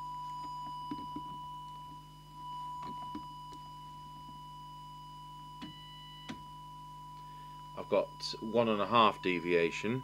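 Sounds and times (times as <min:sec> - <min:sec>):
steady test tone: 0:00.0 - 0:10.0.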